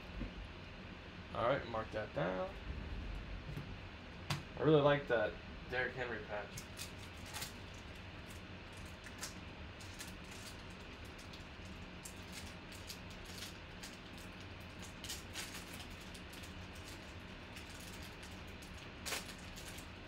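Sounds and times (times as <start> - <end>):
room hum: 0.0 - 20.0.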